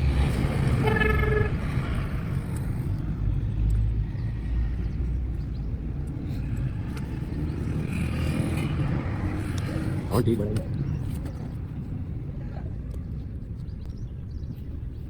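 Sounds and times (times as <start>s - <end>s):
low rumble of motor vehicles: 0.0s - 15.0s.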